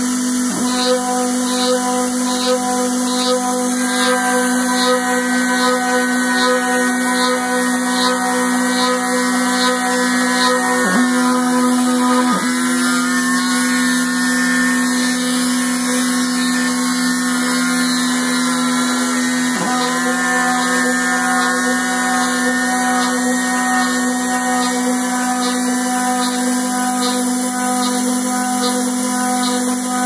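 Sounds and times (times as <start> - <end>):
milling machine motor whine: 0.0 - 30.0.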